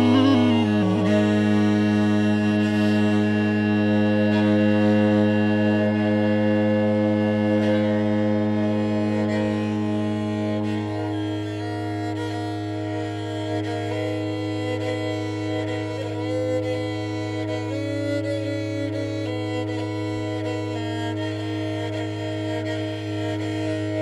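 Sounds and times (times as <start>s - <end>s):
bagpipe drone: 0.0s - 24.0s
melody with long held note: 0.0s - 24.0s.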